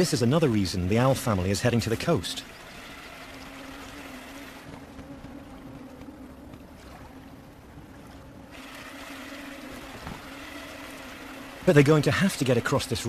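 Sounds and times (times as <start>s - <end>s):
faint low hum: 0.0s - 13.0s
river water running: 0.0s - 13.0s
wind: 0.0s - 13.0s.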